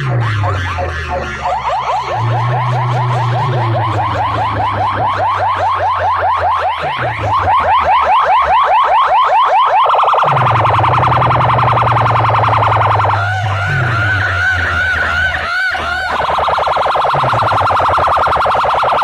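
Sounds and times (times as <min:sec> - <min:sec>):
electronic siren whooping and warbling: 0:00.0 - 0:19.0.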